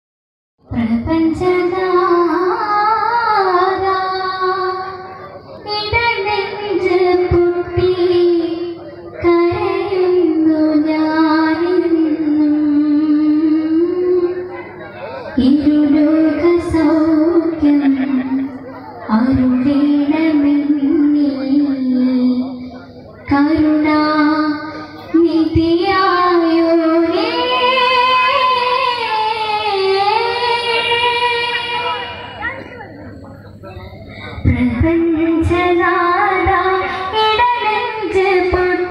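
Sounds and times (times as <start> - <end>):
child singing into a microphone: 0.7 - 14.7, 15.4 - 32.8, 34.3 - 38.9.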